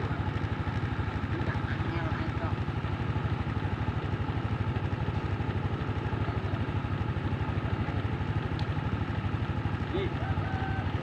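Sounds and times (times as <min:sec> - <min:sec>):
truck engine labouring uphill: 0:00.0 - 0:11.0.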